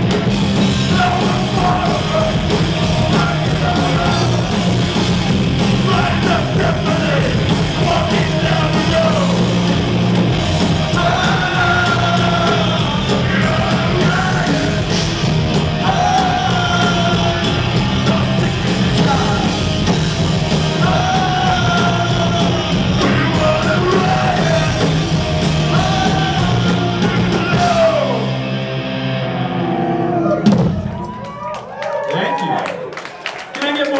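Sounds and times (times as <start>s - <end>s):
punk rock band playing live: 0.0s - 31.2s.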